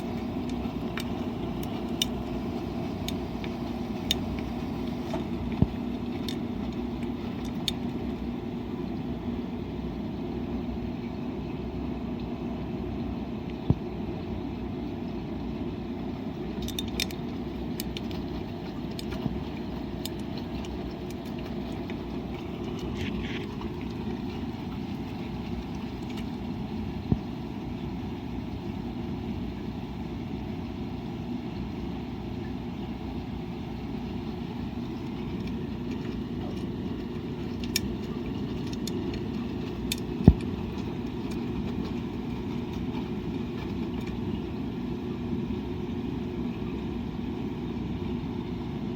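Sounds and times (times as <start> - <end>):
washing machine churning hum: 0.0 - 48.9.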